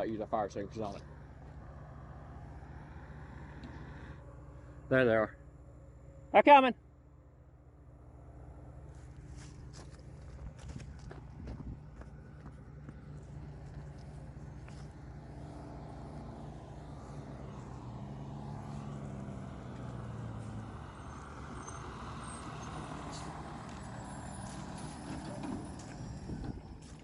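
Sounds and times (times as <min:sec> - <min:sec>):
fire truck diesel engine: 0:00.0 - 0:27.0.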